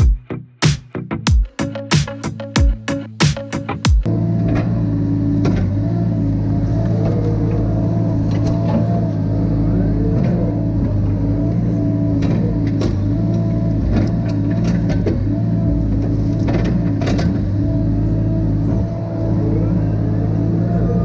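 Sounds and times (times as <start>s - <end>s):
diesel engine running under load: 4.0s - 21.0s
hydraulic whine: 4.0s - 21.0s.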